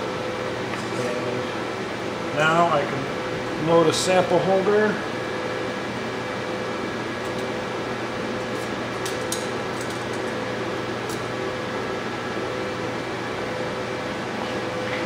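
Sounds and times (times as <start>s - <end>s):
laboratory machinery hum: 0.0s - 15.0s.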